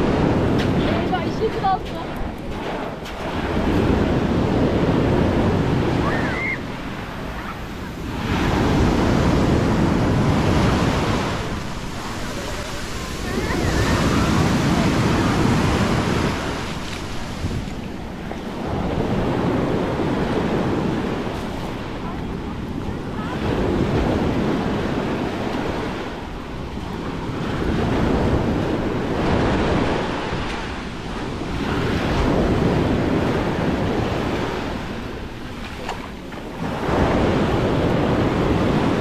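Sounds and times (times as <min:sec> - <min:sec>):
sea waves breaking on beach: 0:00.0 - 0:39.0
wind rumbling on microphone: 0:00.0 - 0:39.0.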